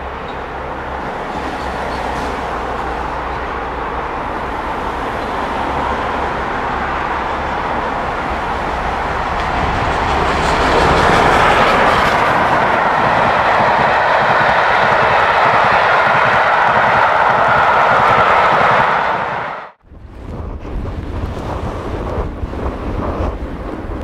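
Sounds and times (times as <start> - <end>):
steam locomotive passing: 0.0 - 19.8
train coaches passing: 0.0 - 19.8.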